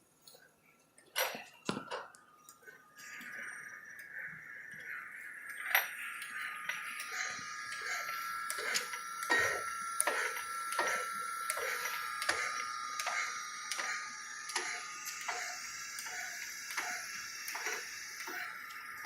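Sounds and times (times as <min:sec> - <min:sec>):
surface grinder whining: 0:02.7 - 0:19.0.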